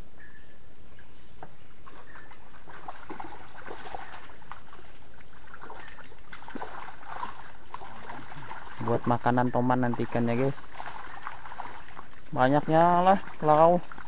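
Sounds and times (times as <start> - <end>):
water sloshing and dripping: 1.4 - 14.0
small splashes: 1.8 - 14.0.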